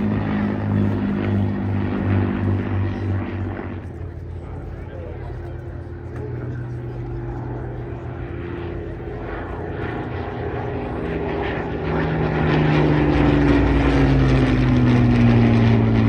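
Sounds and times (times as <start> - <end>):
propeller aircraft flying past: 0.0 - 16.0.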